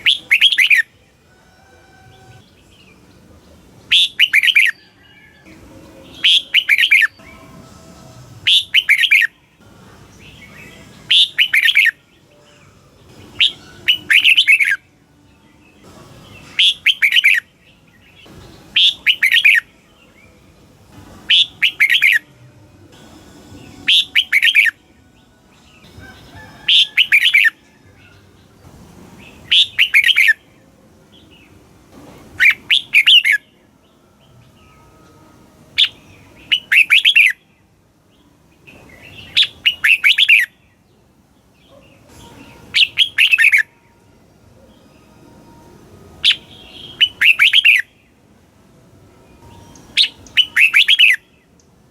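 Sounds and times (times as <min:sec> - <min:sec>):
bulbul singing warbled phrases: 0:00.0 - 0:01.2, 0:02.3 - 0:31.6, 0:32.4 - 0:35.1, 0:35.7 - 0:45.2, 0:46.1 - 0:48.2, 0:49.3 - 0:51.8.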